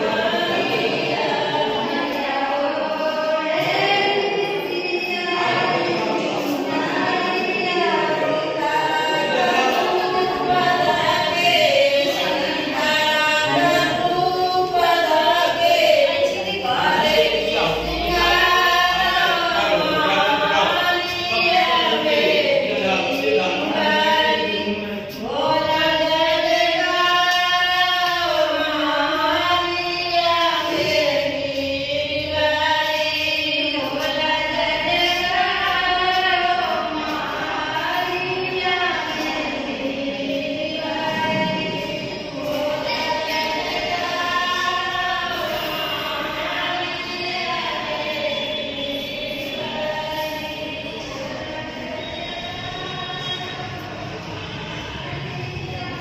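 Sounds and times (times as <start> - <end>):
group singing chant-like melody: 0.0 - 56.0.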